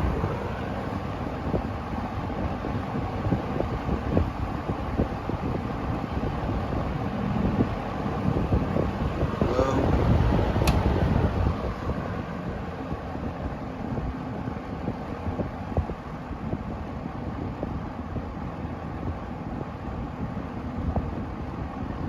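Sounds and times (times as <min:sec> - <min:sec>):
box fan rushing air: 0:00.0 - 0:22.0.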